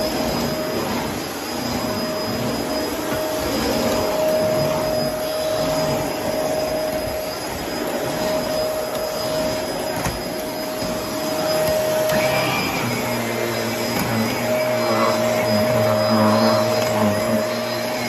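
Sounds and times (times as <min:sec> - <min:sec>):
vacuum cleaner motor whining: 0:00.0 - 0:18.0.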